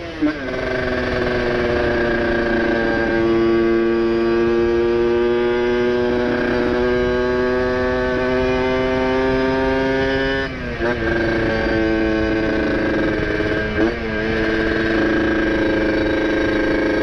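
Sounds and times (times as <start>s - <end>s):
two-stroke motorcycle engine revving high: 0.0s - 17.0s.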